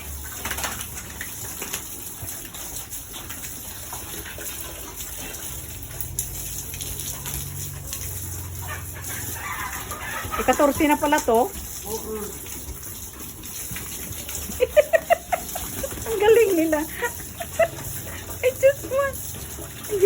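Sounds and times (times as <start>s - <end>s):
water splashing and running: 0.0s - 20.0s.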